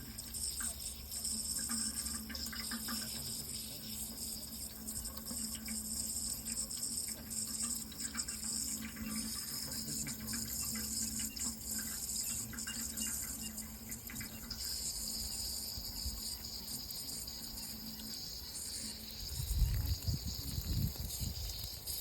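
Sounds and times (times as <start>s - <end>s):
faint steady hum: 0.0s - 22.0s
water running: 0.0s - 22.0s.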